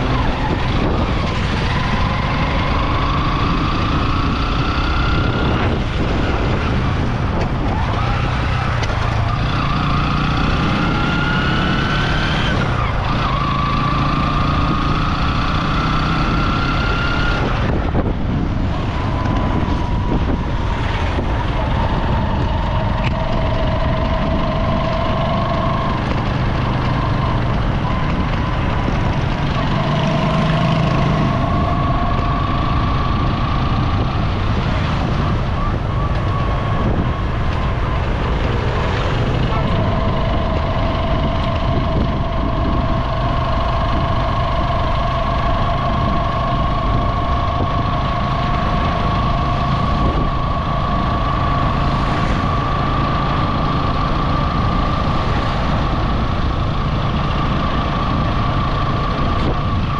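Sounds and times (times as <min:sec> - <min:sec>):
vehicle engine changing gear: 0:00.0 - 0:59.9.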